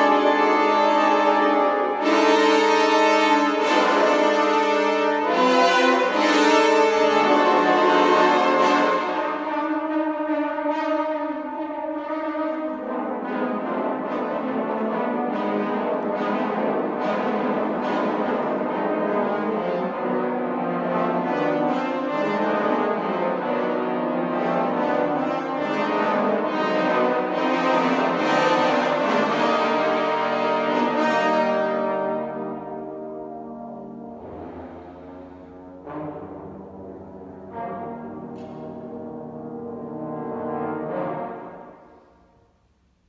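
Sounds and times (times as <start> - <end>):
french horn ensemble chorale: 0.0 - 42.4.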